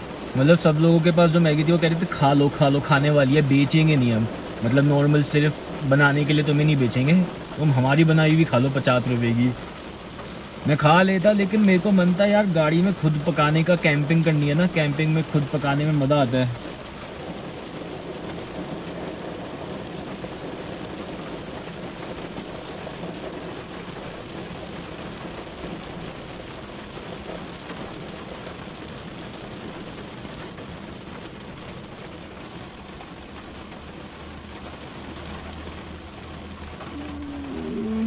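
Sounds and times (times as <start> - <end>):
heavy rain on car roof: 0.0 - 38.0.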